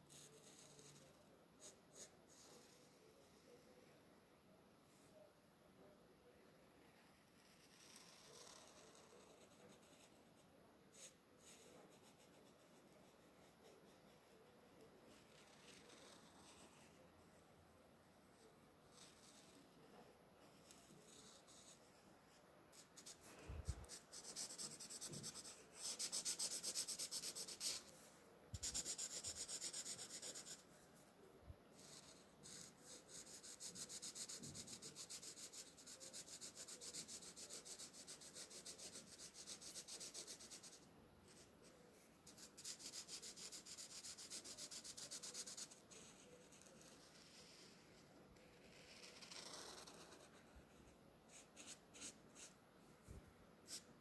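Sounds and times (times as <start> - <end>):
marker colouring on paper: 0.1 - 3.0, 7.3 - 17.0, 18.3 - 19.7, 20.4 - 30.8, 31.8 - 41.5, 42.2 - 52.6, 53.6 - 53.9.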